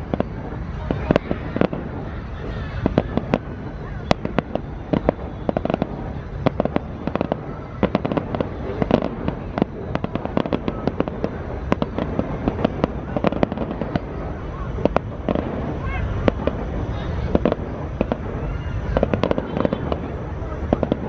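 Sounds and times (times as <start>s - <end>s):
fireworks bangs and pops: 0.0s - 21.0s
low rumble of fireworks: 0.0s - 21.0s.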